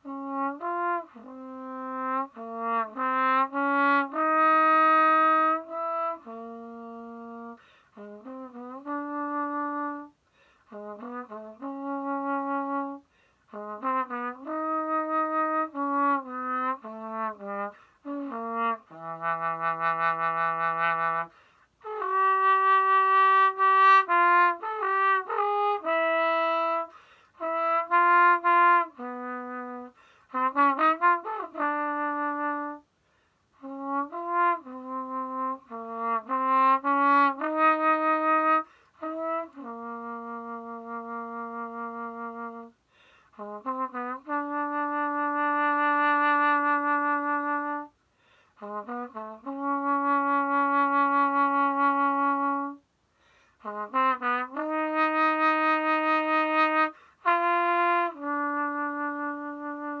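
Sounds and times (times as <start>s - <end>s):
muted trombone playing: 0.0s - 32.9s, 33.6s - 48.0s, 48.6s - 52.8s, 53.6s - 60.0s.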